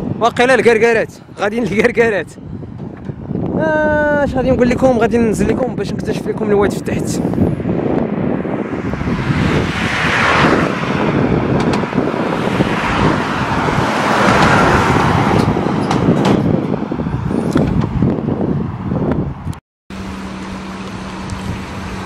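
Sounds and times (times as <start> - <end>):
road traffic passing: 0.0 - 3.6, 5.0 - 22.0.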